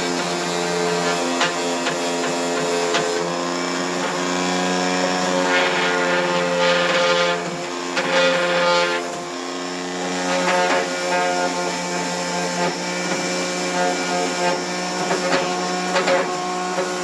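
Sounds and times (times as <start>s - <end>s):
electric power tool running: 0.0s - 17.0s.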